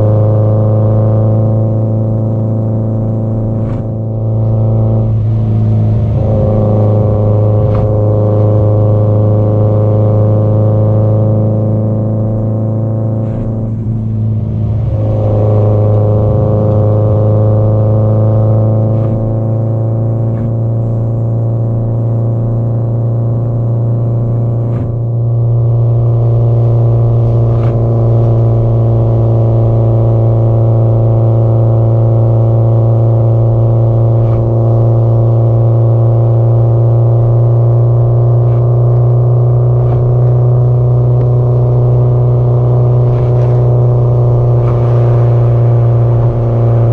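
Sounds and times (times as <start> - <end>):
car exhaust droning: 0.0 - 46.9.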